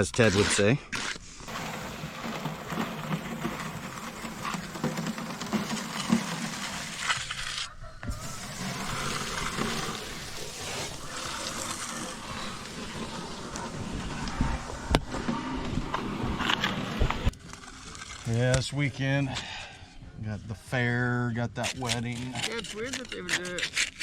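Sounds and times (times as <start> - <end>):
hand tools scraping wet concrete: 0.0 - 18.7, 21.6 - 24.0.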